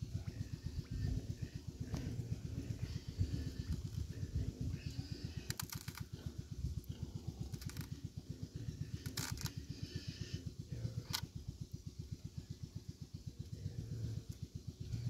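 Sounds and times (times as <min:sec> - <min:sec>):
engine throbbing: 0:00.0 - 0:15.0.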